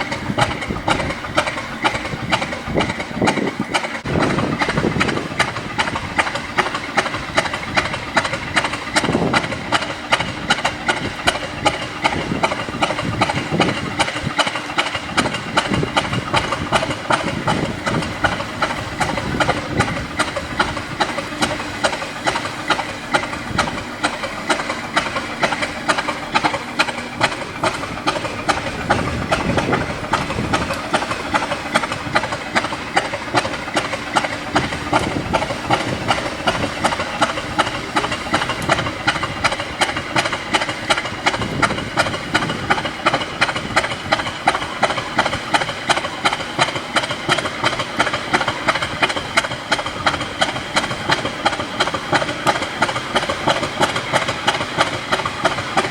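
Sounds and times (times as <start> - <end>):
diesel locomotive engine idling: 0.0 - 55.9
exhaust hiss: 0.0 - 55.9.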